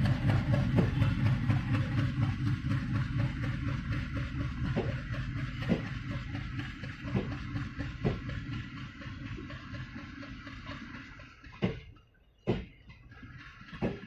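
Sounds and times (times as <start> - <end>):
train rumbling on track: 0.0 - 14.0
wheels clacking over rail joints: 0.0 - 14.0.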